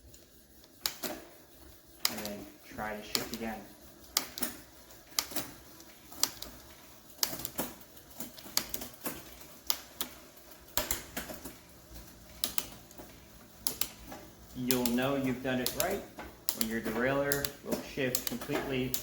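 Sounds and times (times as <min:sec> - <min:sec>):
bicycle derailleur clicking: 0:03.0 - 0:19.0.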